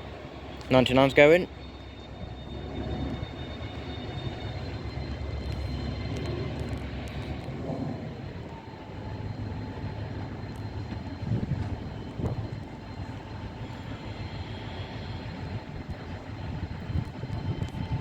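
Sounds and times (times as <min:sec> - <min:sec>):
faint steady whine: 0:00.0 - 0:18.0
locomotive diesel engine drone: 0:00.0 - 0:18.0.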